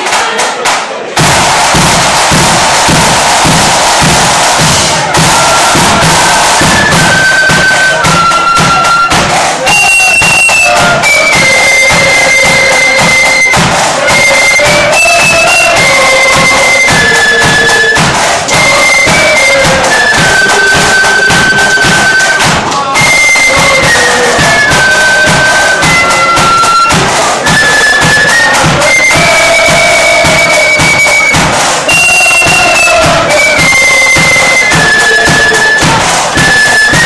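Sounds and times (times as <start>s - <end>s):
steady bass drum beat: 1.1s - 37.0s
flutes playing in unison: 1.2s - 37.0s.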